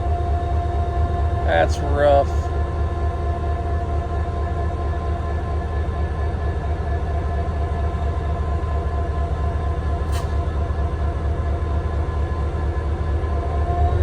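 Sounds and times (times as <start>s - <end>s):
locomotive diesel engine rumbling: 0.0s - 14.0s.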